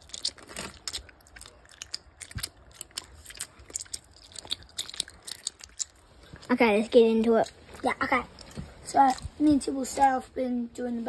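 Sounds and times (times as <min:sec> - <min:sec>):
chewing crunches: 0:00.0 - 0:09.4.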